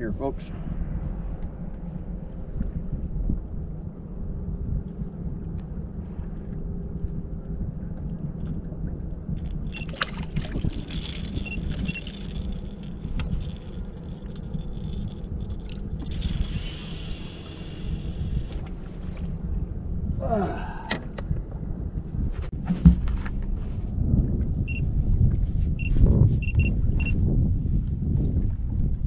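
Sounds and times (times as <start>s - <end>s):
wind and water rumble: 0.0s - 29.0s.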